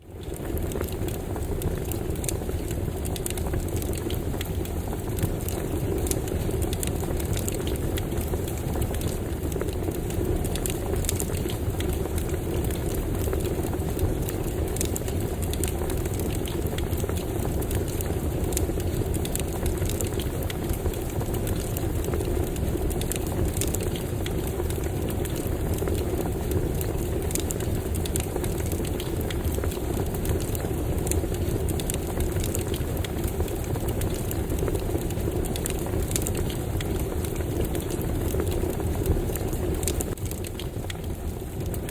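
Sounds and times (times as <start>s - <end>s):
campfire flame rumble: 0.0s - 41.9s
crackles and pops of burning wood: 0.0s - 41.9s.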